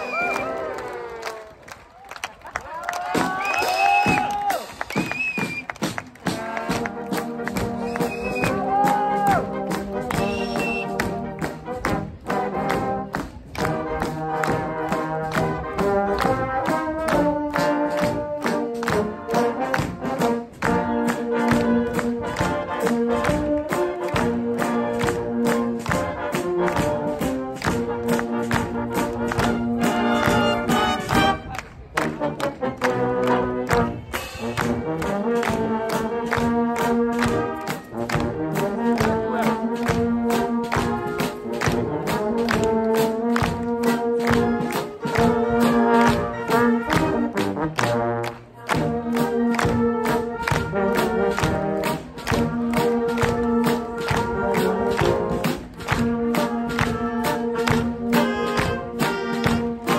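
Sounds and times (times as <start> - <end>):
brass marching band playing: 0.0 - 1.7, 2.8 - 59.9.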